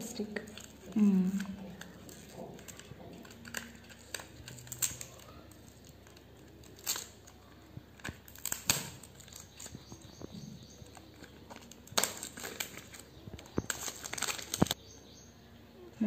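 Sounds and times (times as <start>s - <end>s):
cardboard crackling: 0.0s - 14.8s.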